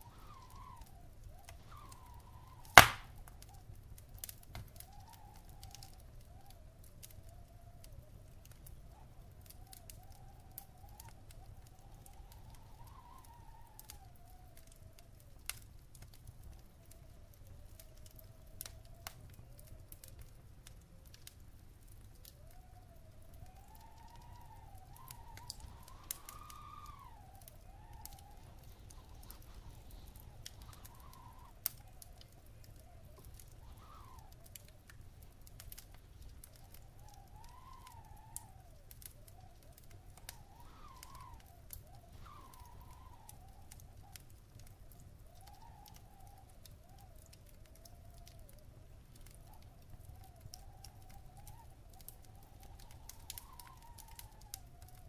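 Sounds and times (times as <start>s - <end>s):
faint wavering whistling tone: 0.0s - 15.5s, 22.1s - 55.0s
wood fire crackling: 0.0s - 55.0s.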